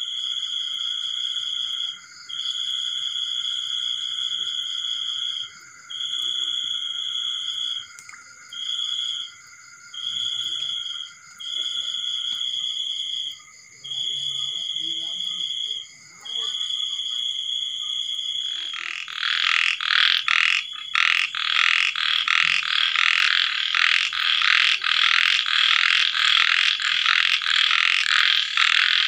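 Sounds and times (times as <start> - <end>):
frogs trilling: 0.0 - 29.0
insects calling: 0.0 - 29.0.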